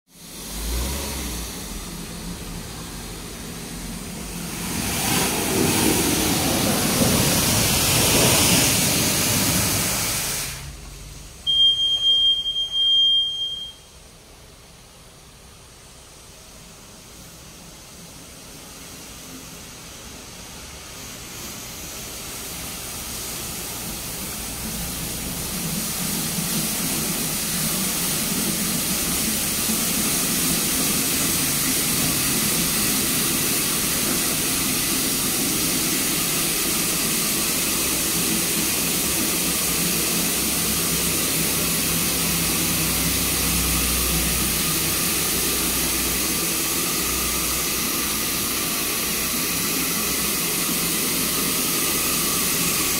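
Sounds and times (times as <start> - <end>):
water spray hissing against car: 0.1 - 11.4, 14.6 - 52.9.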